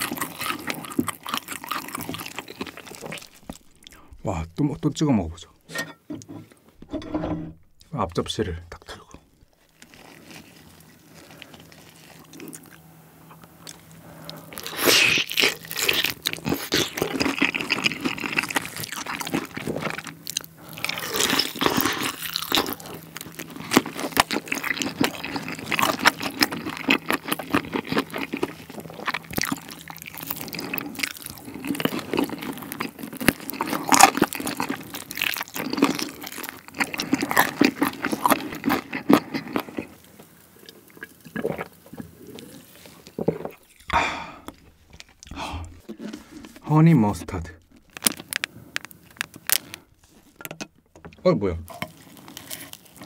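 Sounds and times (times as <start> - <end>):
biting and chewing fried chicken: 0.0 - 4.7, 9.4 - 53.0.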